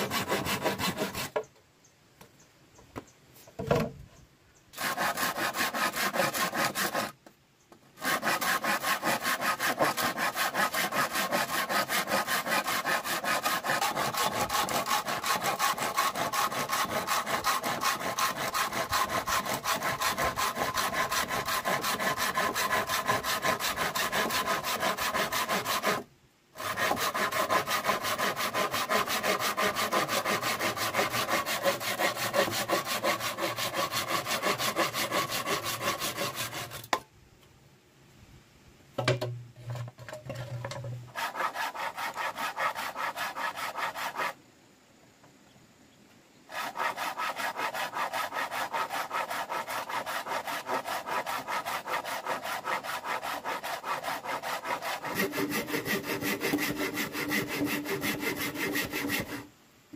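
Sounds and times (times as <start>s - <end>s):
hand saw cutting bamboo: 0.0s - 1.5s, 4.7s - 7.2s, 8.0s - 37.0s, 39.7s - 44.4s, 46.5s - 59.5s.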